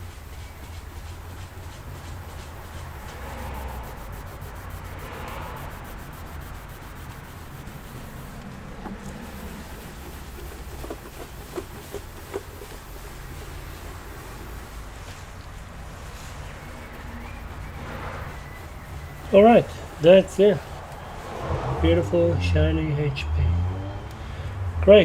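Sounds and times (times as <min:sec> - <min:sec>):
cloth scrubbing computer case: 0:00.0 - 0:22.0.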